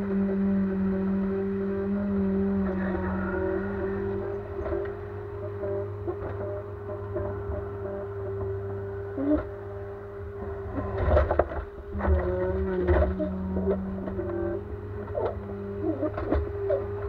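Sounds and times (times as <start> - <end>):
diesel engine running: 0.0 - 17.0
hydraulics whining: 0.0 - 17.0.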